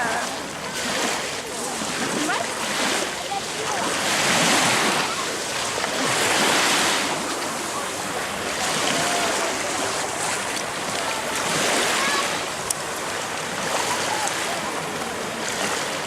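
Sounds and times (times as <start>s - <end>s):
sea surf breaking: 0.0s - 16.0s.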